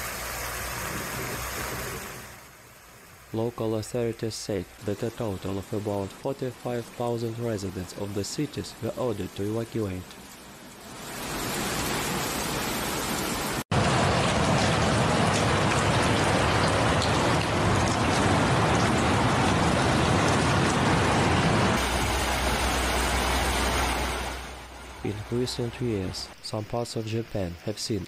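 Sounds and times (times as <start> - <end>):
floodwater rushing: 0.0 - 26.2
heavy rain: 0.0 - 26.4.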